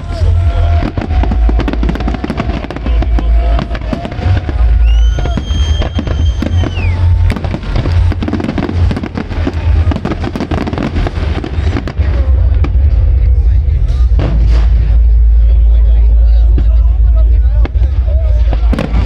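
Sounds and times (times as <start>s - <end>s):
fireworks bangs and crackling: 0.0s - 19.0s
music playing: 0.0s - 19.0s.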